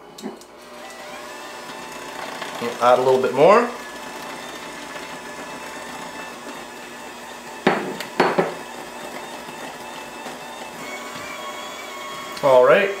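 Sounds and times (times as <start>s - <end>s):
hand mixer running: 0.0s - 13.0s.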